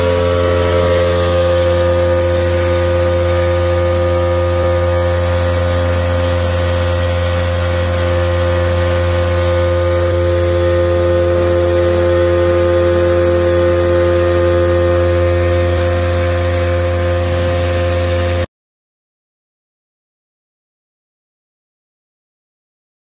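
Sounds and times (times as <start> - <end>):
vibrating motor humming: 0.0 - 18.5.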